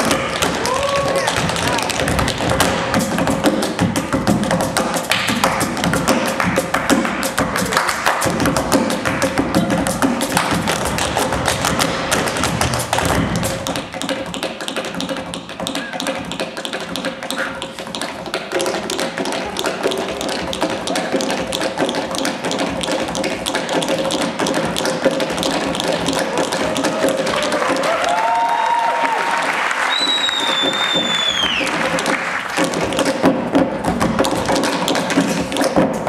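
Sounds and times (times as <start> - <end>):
tap shoes striking stage floor: 0.0 - 36.0.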